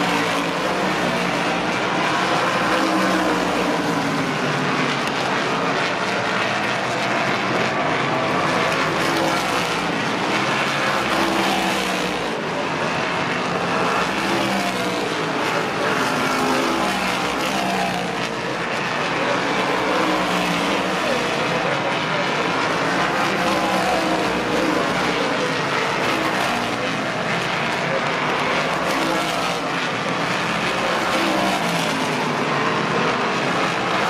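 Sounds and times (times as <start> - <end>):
race car engines on track: 0.0 - 34.0.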